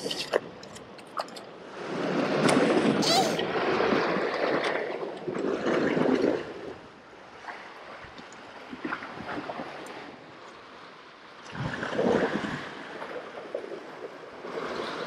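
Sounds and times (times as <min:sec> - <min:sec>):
sea water splashing: 0:00.0 - 0:15.0.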